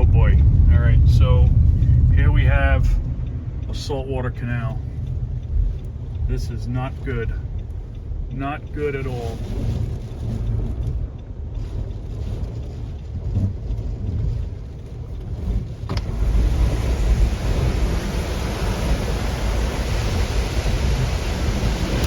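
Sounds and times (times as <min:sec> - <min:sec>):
car engine running: 0:00.0 - 0:22.0
wind buffeting the microphone: 0:00.0 - 0:22.0.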